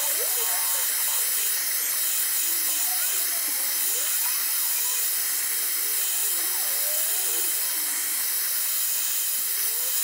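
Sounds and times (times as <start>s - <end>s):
blowtorch hissing: 0.0s - 10.0s.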